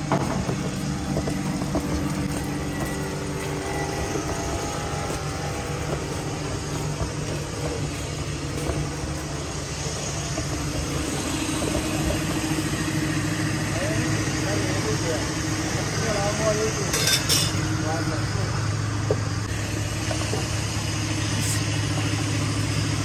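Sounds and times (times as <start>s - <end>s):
low hum: 0.0s - 23.0s
vehicle engines running: 0.0s - 23.0s.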